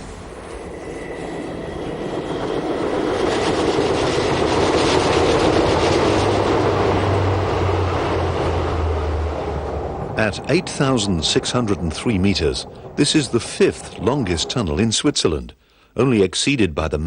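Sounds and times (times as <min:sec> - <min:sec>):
low hum: 0:00.0 - 0:15.5
train running on track: 0:00.0 - 0:15.6.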